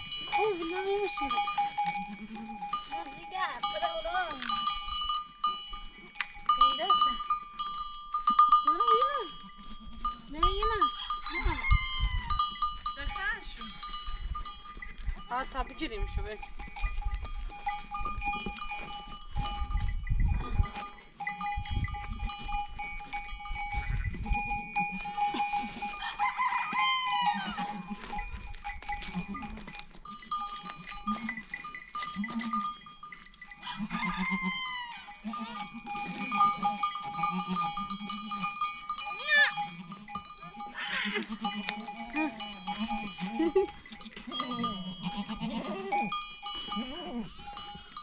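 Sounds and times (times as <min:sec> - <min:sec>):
animal bells clinking: 0:00.0 - 0:48.0.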